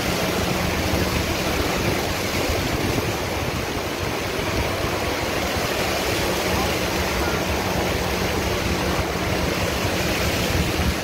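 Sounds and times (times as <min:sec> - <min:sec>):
faint engine hum: 0:00.0 - 0:11.0
tyres rushing through floodwater: 0:00.0 - 0:11.0.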